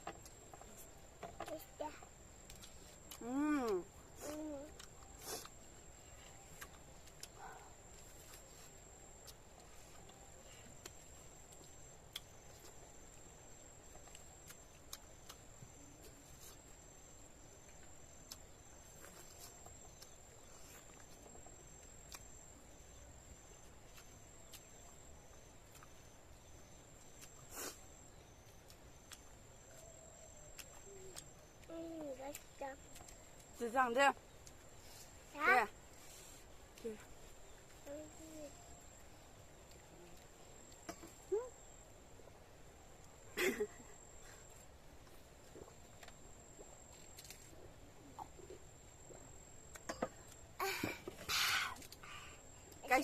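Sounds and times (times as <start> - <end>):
faint high-pitched whine: 0.0 - 53.0.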